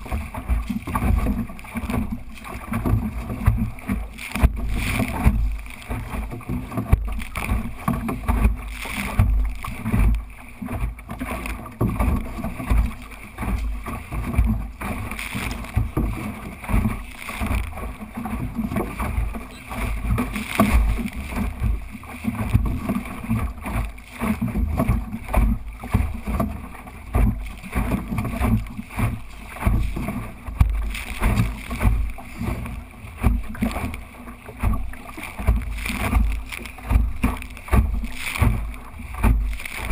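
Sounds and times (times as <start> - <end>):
water splashing along hull: 0.0 - 39.9.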